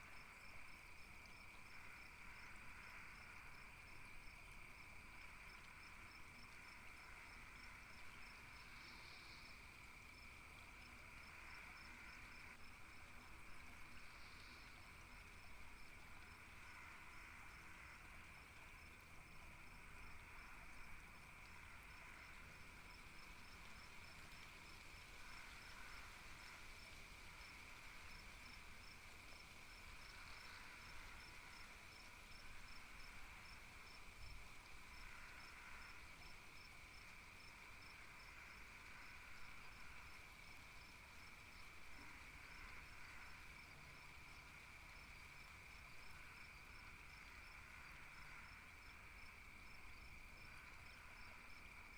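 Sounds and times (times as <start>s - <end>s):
cricket chirping: 0.0s - 51.9s
high insect drone: 0.0s - 51.9s.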